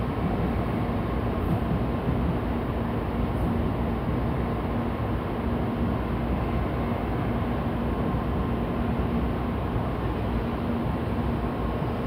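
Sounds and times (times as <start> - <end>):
train pulling into station: 0.0 - 12.0.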